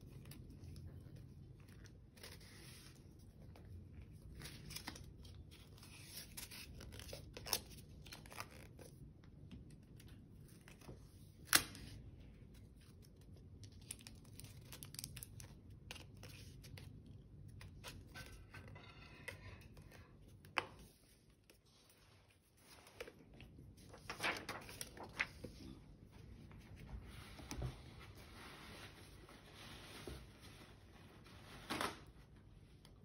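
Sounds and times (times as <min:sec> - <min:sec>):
paper rustling and crinkling: 0:00.0 - 0:09.0, 0:09.8 - 0:32.6.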